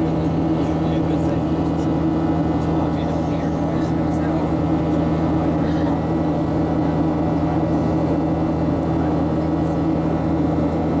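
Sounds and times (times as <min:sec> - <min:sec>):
aircraft cabin engine drone: 0:00.0 - 0:11.0.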